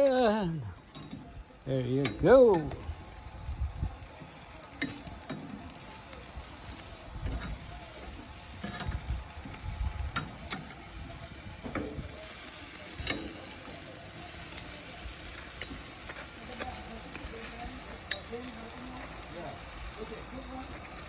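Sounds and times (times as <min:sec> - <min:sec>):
chicken sizzling on a grill: 0:00.0 - 0:21.0.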